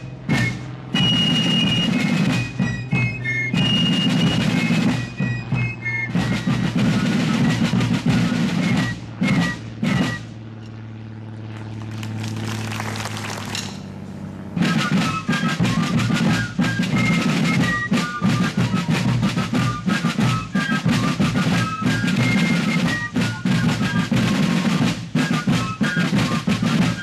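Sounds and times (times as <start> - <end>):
snare drums: 0.0 - 10.4, 14.6 - 27.0.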